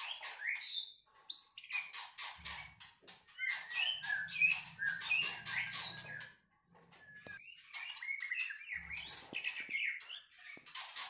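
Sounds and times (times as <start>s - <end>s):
bird singing whistles and chirps: 0.0s - 2.7s, 3.4s - 6.3s, 6.9s - 10.6s.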